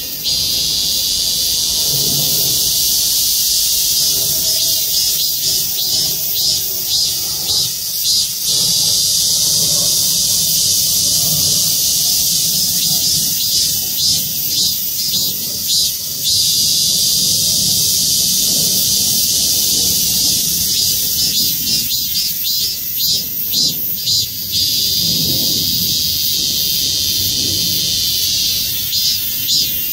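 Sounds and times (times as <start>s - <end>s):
cicadas buzzing: 0.0s - 29.9s.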